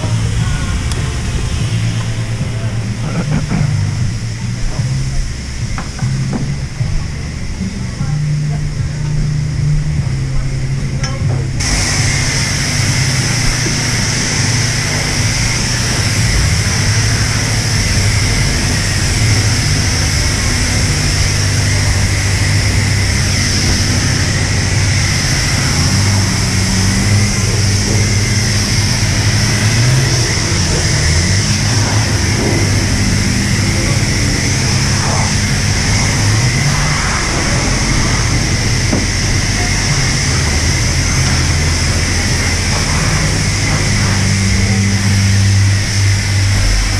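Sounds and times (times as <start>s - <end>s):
high-pressure water spraying: 0.0s - 46.9s
pump humming: 0.0s - 46.9s.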